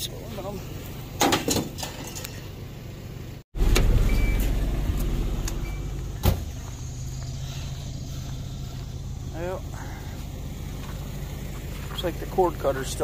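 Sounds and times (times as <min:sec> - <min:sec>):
pickup truck engine running: 0:00.0 - 0:13.0.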